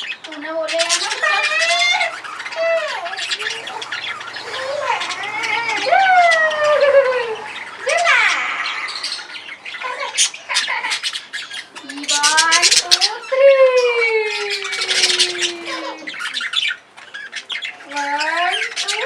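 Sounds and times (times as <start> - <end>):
lovebirds chirping and squawking: 0.0 - 19.0.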